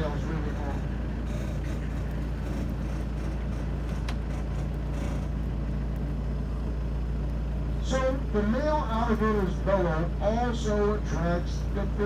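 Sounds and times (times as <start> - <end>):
tram engine humming: 0.0 - 12.0.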